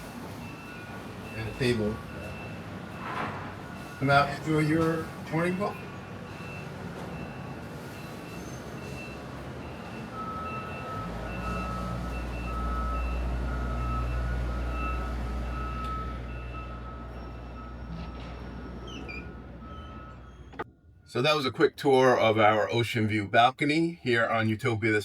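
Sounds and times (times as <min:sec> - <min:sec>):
backup alarm beeping: 0:00.0 - 0:20.7
low engine rumble: 0:00.0 - 0:23.3.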